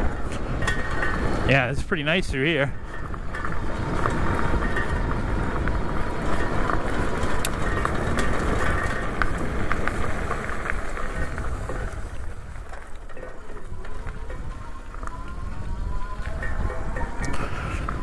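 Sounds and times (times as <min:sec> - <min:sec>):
bike fender rattling and clicking: 0:00.0 - 0:18.0
wind rumble on microphone: 0:00.0 - 0:18.0.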